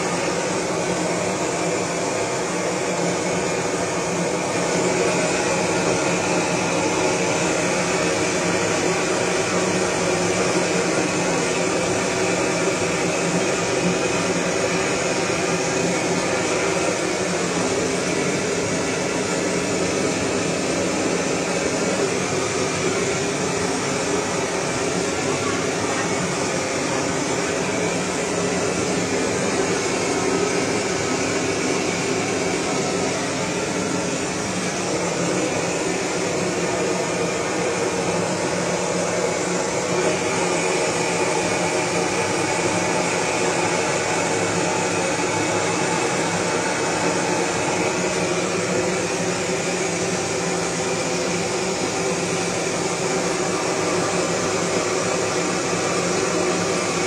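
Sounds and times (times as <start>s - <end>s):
gas blowtorch burning: 0.0s - 57.0s.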